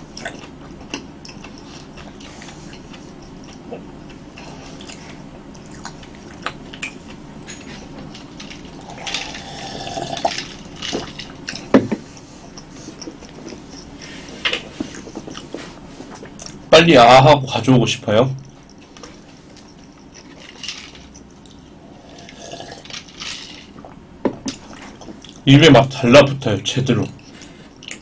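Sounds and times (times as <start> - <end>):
chewing with mouth clicks: 0.0 - 7.9, 8.6 - 16.7, 18.4 - 23.0, 23.8 - 25.5, 27.2 - 28.0.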